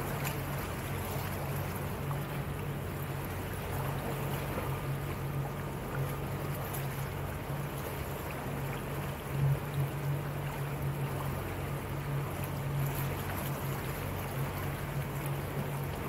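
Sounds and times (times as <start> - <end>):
motorboat engine humming: 0.0 - 16.0
water rushing: 0.0 - 16.0.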